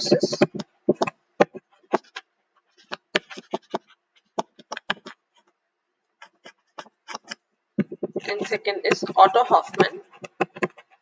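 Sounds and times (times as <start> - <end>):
stylus writing on touchscreen: 0.0 - 5.5, 6.2 - 11.0.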